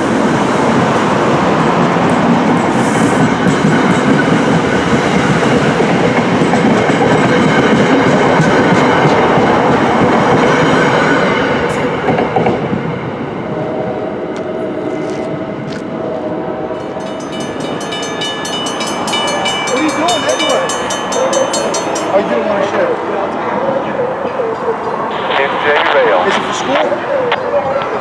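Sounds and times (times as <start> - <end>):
train rolling past with wheel clatter: 0.0 - 28.0.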